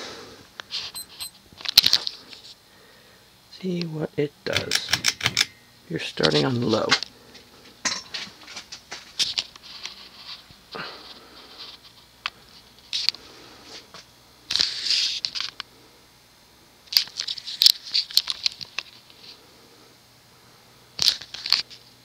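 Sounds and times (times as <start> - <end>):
ceiling fan motor hum: 0.0 - 22.0.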